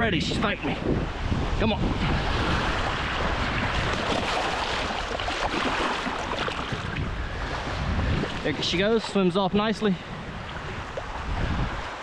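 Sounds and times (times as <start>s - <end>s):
wind buffeting microphone: 0.0s - 12.0s
small waves splashing at shoreline: 1.2s - 12.0s.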